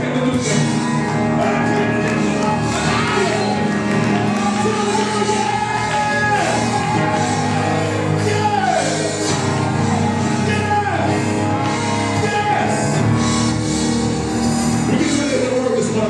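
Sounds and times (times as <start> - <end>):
band playing worship music: 0.0 - 16.0
singers holding long notes: 0.0 - 16.0.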